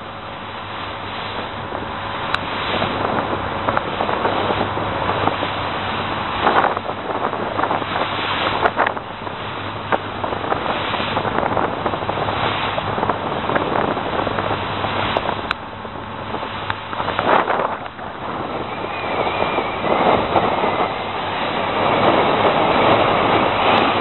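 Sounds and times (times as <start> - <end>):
boat engine humming: 0.0 - 24.0
rushing water: 0.0 - 24.0
wind noise on microphone: 0.0 - 24.0.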